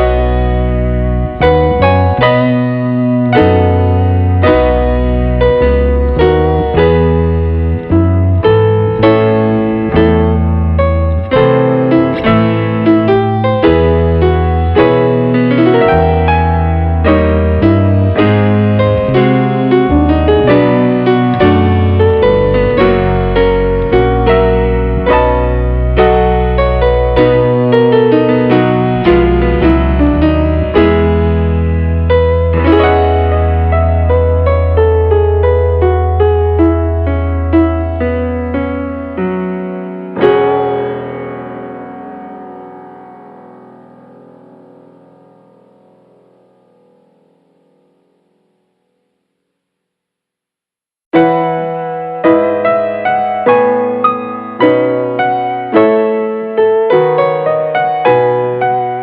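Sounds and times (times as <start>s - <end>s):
held keyboard notes: 0.0s - 48.6s
piano music: 0.0s - 48.7s, 51.1s - 59.0s.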